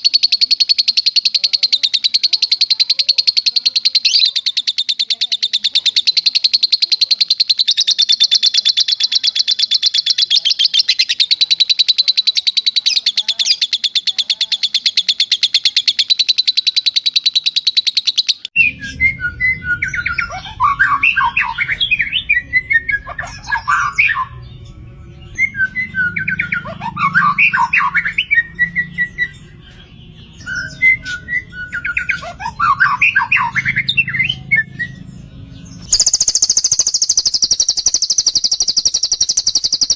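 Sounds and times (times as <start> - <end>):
lovebird chattering trill: 0.0 - 39.9
songbird singing: 0.0 - 39.9.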